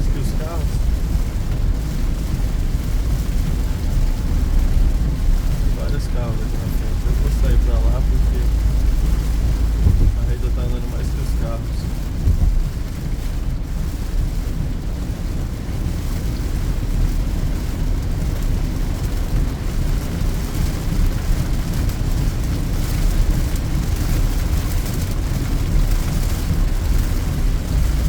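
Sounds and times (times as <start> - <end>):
engine and tyres rumbling: 0.0 - 28.0
hiss of rain and spray: 0.0 - 28.0.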